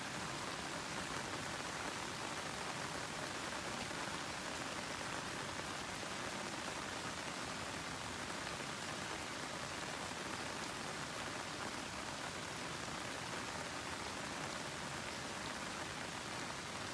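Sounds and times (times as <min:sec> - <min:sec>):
rain falling on plants: 0:00.0 - 0:16.9.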